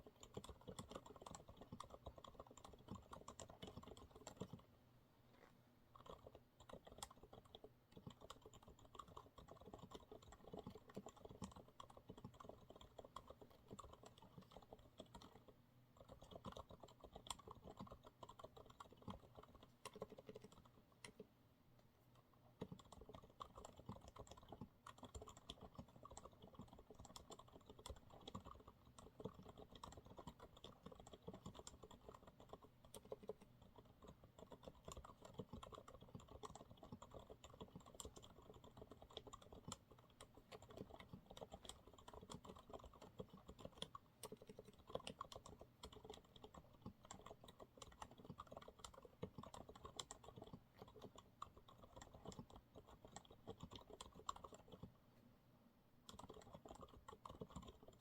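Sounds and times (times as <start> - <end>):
soft keyboard typing: 0.0 - 4.7, 5.3 - 55.0, 56.0 - 58.0.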